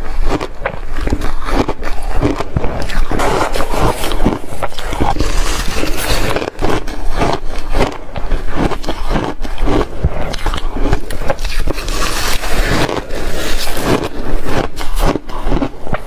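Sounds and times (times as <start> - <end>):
chewing and crunching shaved ice: 0.0 - 16.0.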